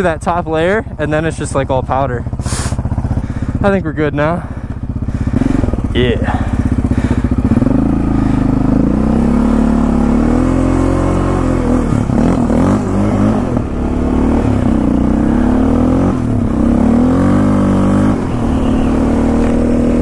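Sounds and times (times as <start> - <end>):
quad engine revving: 0.0 - 20.0.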